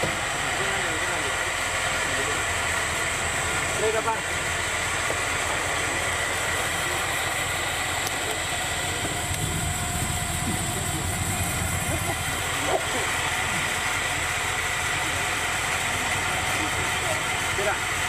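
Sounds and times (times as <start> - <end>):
engine running at low revs: 0.0 - 18.0
faint voices: 0.0 - 18.0.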